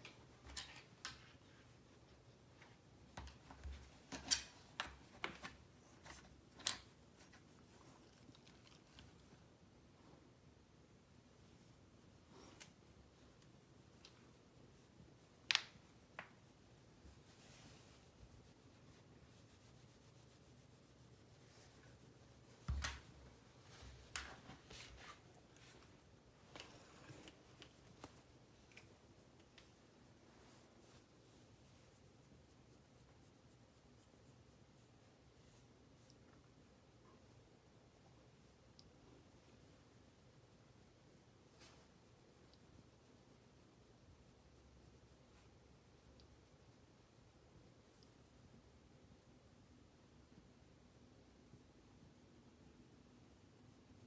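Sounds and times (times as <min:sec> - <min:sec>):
hand rubbing dog fur: 0:00.0 - 0:10.3, 0:11.2 - 0:36.5, 0:39.1 - 0:48.7.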